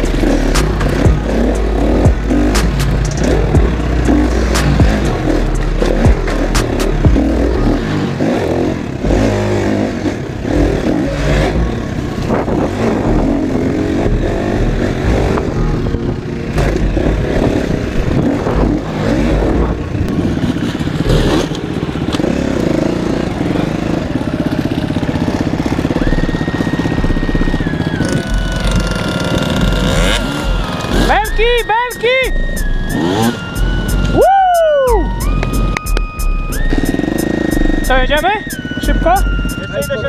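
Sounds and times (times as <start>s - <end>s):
motorcycle engine revving: 0.0s - 40.0s
wind: 0.0s - 40.0s.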